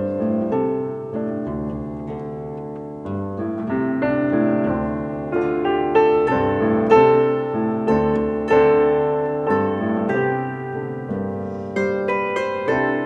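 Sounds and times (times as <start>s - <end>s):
grand piano playing slow chords: 0.0s - 13.0s.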